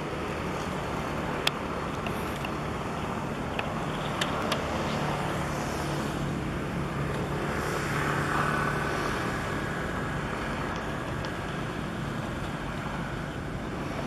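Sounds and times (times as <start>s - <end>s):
harbour noise: 0.0s - 14.0s
low engine drone: 0.0s - 14.0s
wind: 0.0s - 14.0s.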